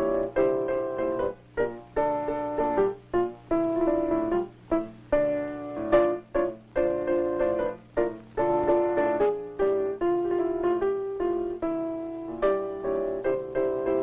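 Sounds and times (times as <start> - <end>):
piano playing detached chords: 0.0 - 14.0.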